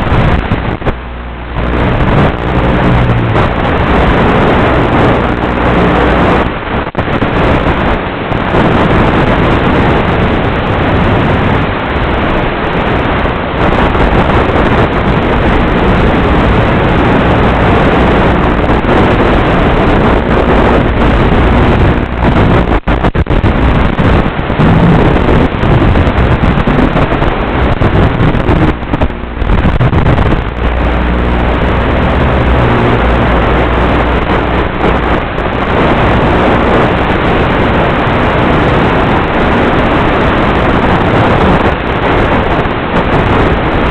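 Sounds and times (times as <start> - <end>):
faint hum: 0.0 - 43.9
steady rushing noise: 0.0 - 43.9.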